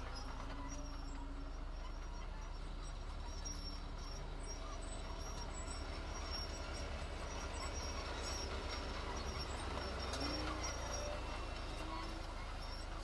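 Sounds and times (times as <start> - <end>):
diesel machinery rumbling: 0.0 - 13.0
faint high-pitched squeaks: 0.0 - 13.0.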